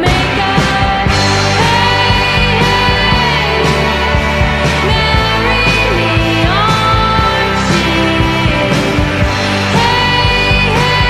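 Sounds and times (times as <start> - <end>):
steady drum beat: 0.0 - 11.0
sustained melodic notes: 0.1 - 11.0.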